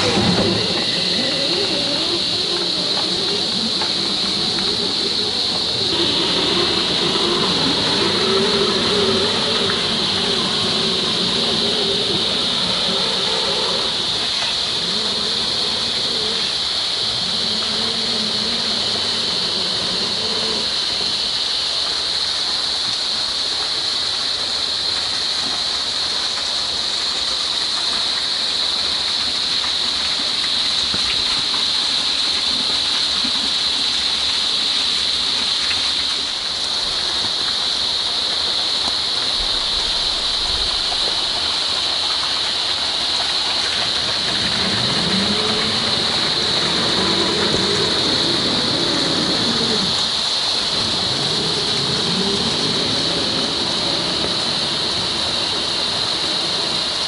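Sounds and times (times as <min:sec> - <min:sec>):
rain falling through forest: 0:00.0 - 0:57.0.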